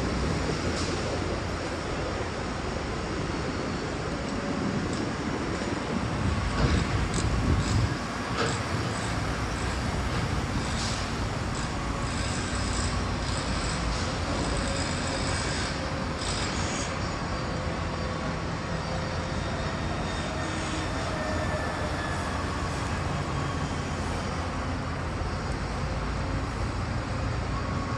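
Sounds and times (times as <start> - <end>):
city rumble of vehicles and machinery: 0.0 - 27.9.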